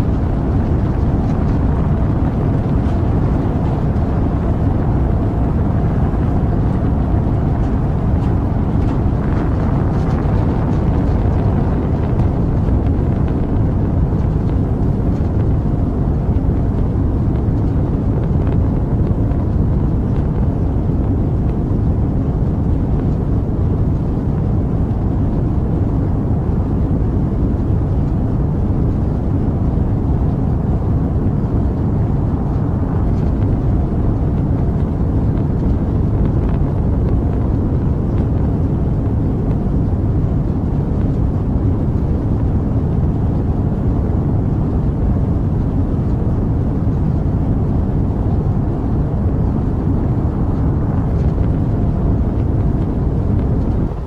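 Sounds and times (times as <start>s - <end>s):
rocket engine rumble: 0.0s - 54.0s.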